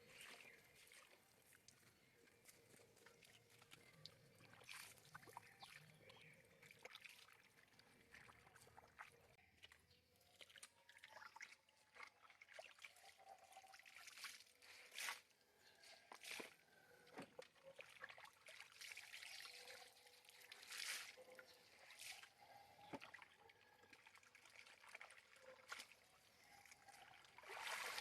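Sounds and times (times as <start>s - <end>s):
water sloshing and trickling: 0.0s - 28.0s
small splashes and clicks: 0.1s - 28.0s.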